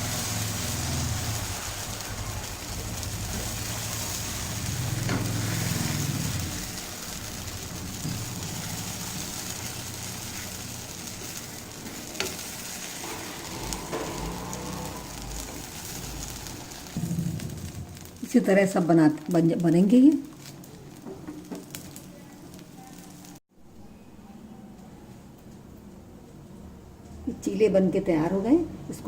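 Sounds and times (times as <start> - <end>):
batter sizzling on a hot griddle: 0.0 - 23.4.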